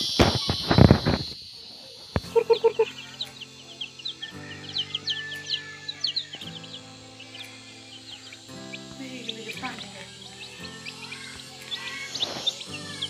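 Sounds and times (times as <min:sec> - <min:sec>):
chicks peeping: 0:00.0 - 0:13.0
background music with held notes: 0:02.0 - 0:13.0.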